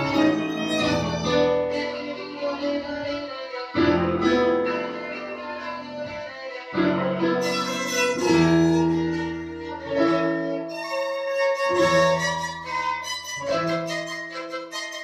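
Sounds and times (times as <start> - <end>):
bowed violin melody: 0.0 - 15.0
piano chords: 0.0 - 15.0.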